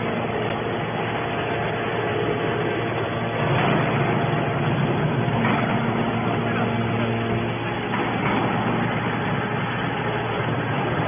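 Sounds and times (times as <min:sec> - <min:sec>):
hydraulic baler motor and pump: 0:00.0 - 0:11.0.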